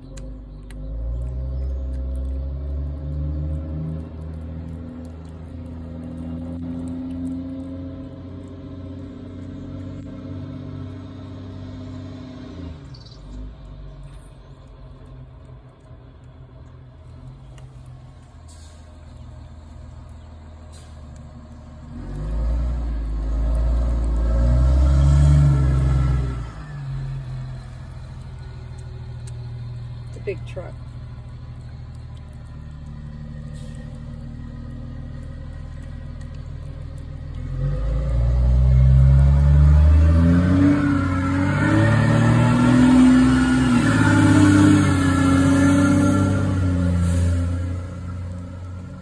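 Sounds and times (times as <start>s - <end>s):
low engine hum: 0.0s - 49.0s
truck passing by: 0.0s - 49.0s.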